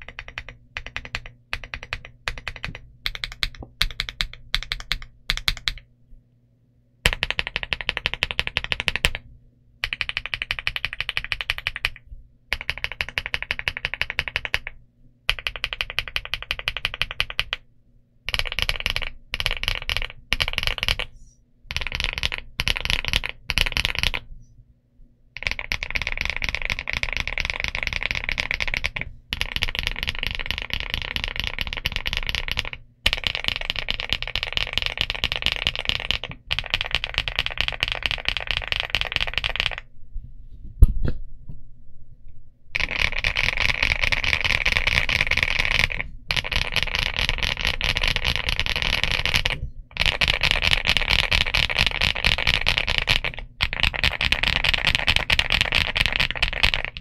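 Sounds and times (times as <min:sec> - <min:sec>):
mechanical keyboard typing: 0:00.0 - 0:05.9, 0:07.1 - 0:09.2, 0:09.8 - 0:17.6, 0:18.3 - 0:21.1, 0:21.7 - 0:24.2, 0:25.4 - 0:39.9, 0:42.8 - 0:57.0.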